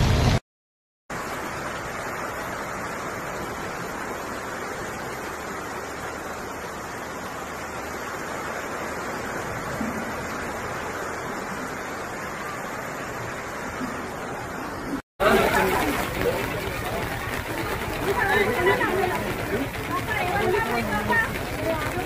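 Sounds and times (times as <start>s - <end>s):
floodwater rushing: 1.2s - 22.0s.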